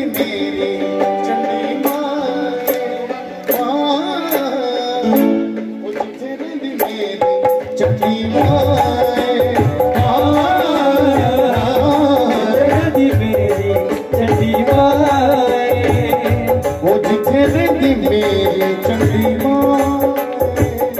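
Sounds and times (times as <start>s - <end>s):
dhol drum beat: 3.6s - 20.9s.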